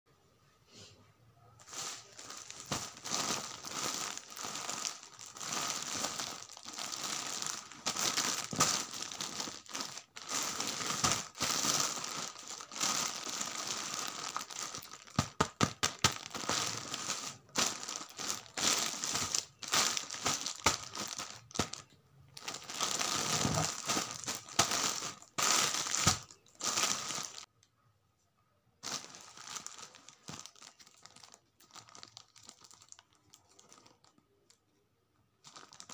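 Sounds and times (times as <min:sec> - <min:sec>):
plastic bag crinkling: 0:01.6 - 0:27.5, 0:28.8 - 0:34.6, 0:35.4 - 0:35.9.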